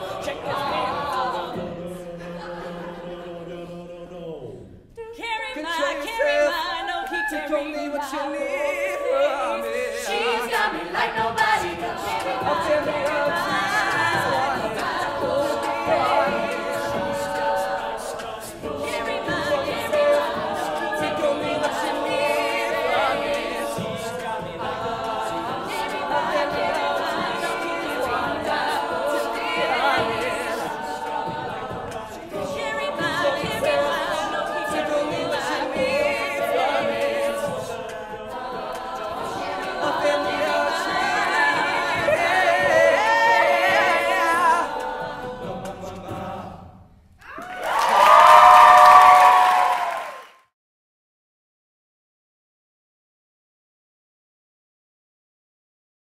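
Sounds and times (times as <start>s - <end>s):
lead vocal singing: 0.0s - 50.0s
a cappella group singing harmonies: 0.0s - 50.2s.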